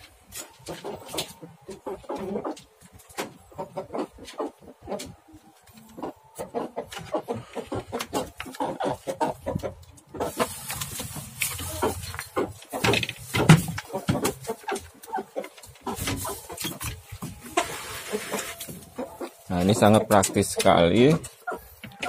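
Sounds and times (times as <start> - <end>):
chicken calling: 3.4 - 12.9, 13.8 - 22.0.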